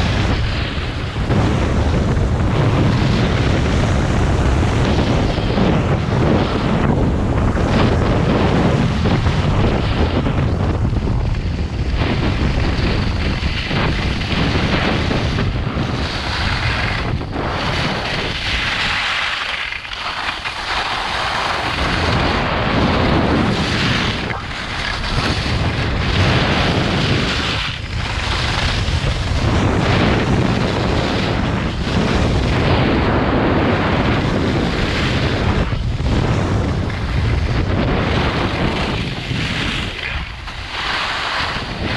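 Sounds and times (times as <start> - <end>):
skis sliding on snow: 0.0 - 41.9
wind buffeting microphone: 0.0 - 41.9.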